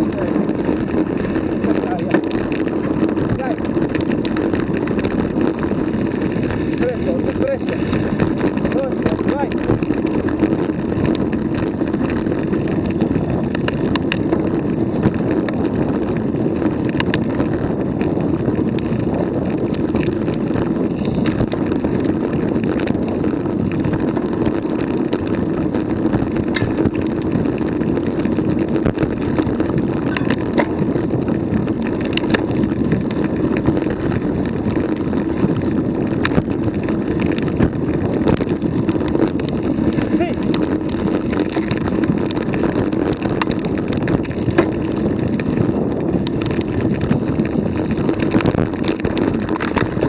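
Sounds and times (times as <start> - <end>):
wind rumbling on camera microphone: 0.0 - 50.0.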